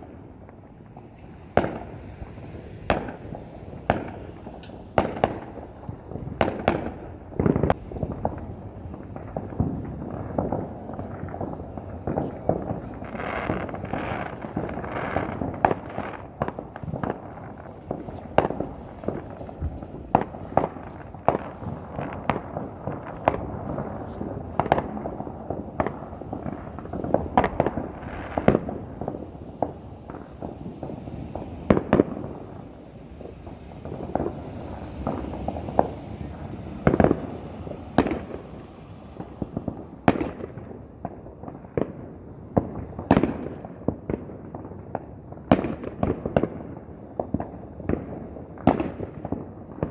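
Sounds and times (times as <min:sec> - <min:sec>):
fireworks bangs and pops: 0:00.0 - 0:49.9
fireworks crackling: 0:00.0 - 0:49.9.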